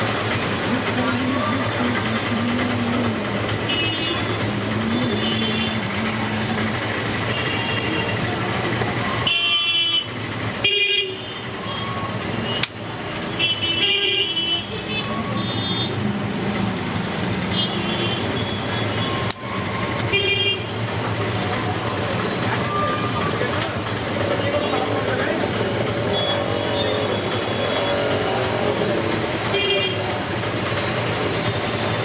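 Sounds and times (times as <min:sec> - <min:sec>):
road traffic rumble: 0:00.0 - 0:32.0
vehicle horns honking: 0:01.8 - 0:12.7, 0:13.3 - 0:16.0, 0:17.5 - 0:21.0, 0:21.6 - 0:32.0.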